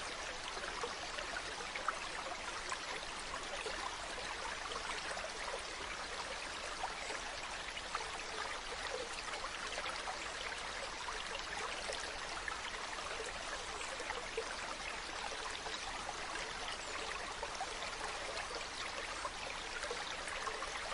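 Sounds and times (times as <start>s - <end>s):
stream running over rocks: 0.0s - 20.9s.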